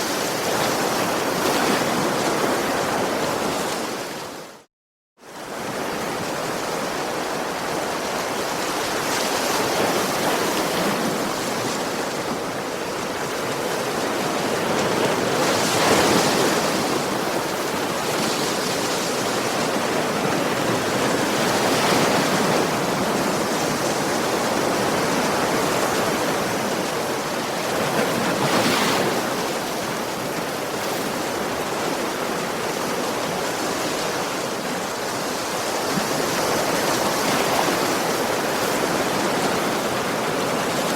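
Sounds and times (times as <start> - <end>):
ocean waves breaking on a beach: 0.0 - 40.9.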